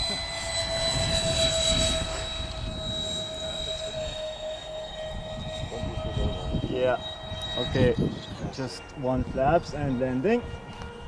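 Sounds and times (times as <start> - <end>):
electric ducted fans whining: 0.0 - 11.0
wind rumble on microphone: 0.0 - 11.0.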